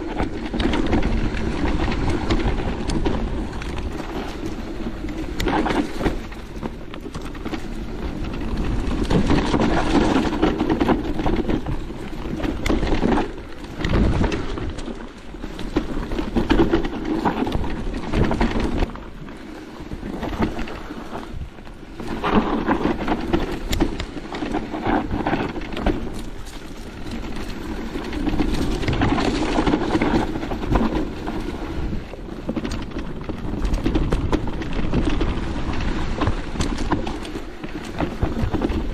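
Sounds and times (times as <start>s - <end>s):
bike knocks and rattles: 0.0s - 19.4s, 20.0s - 38.9s
bike tyre noise on trail: 0.0s - 38.9s
wind noise on microphone: 0.0s - 38.9s.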